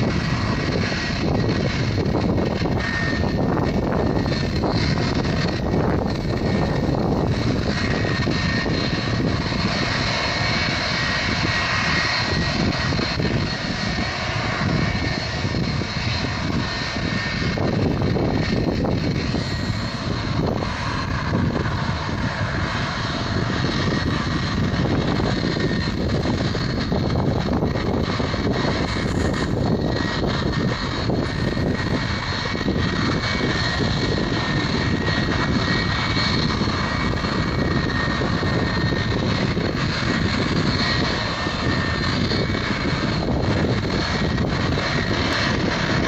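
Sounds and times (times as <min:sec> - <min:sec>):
high engine whine: 0:00.0 - 0:46.0
jet engines running: 0:00.0 - 0:46.0.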